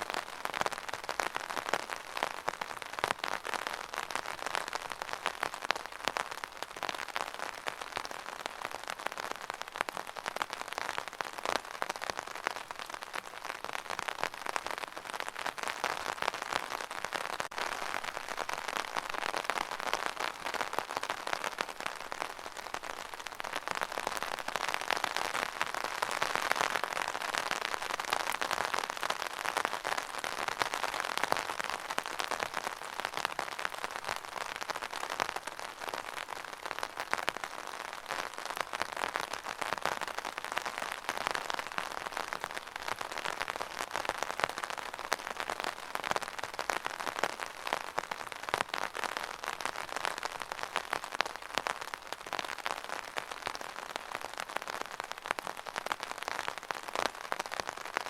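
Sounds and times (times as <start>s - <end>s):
rain pattering on hard surface: 0.0s - 58.0s.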